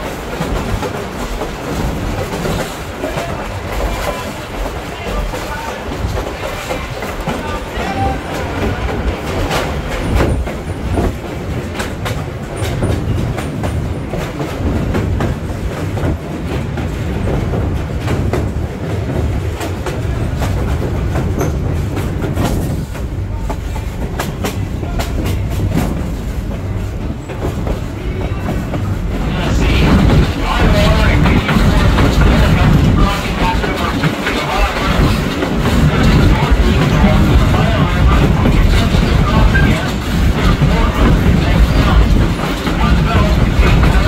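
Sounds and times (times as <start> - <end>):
train wheels rumbling: 0.0 - 44.0
wheels clacking over rails: 0.0 - 44.0.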